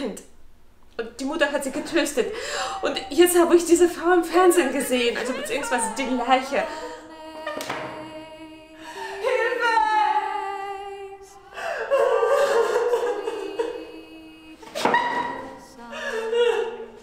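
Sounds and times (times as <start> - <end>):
woman singing with vibrato: 1.6 - 17.0.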